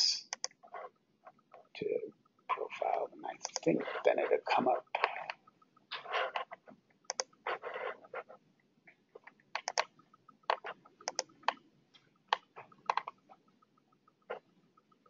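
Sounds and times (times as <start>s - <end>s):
mouse and keyboard clicks: 0.2s - 1.7s, 2.5s - 8.3s, 9.2s - 15.0s.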